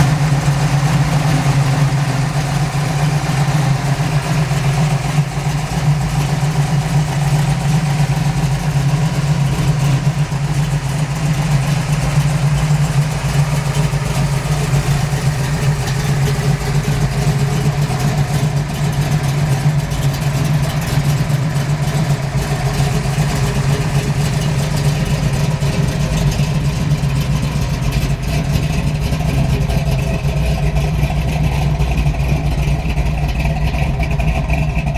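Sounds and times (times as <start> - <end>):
loud vee eight engine idling: 0.0 - 34.9.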